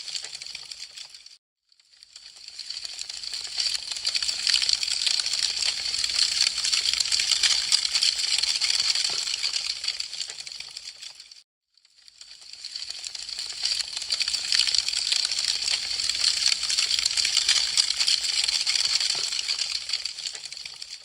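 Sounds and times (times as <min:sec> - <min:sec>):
burning wood crackling: 0:02.0 - 0:11.3, 0:12.1 - 0:21.0.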